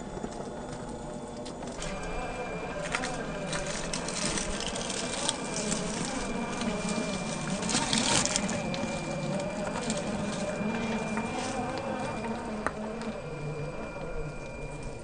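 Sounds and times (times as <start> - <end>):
rc car motor and drivetrain whine: 0.0 - 15.0
rocks crunching under tyres: 0.0 - 15.0.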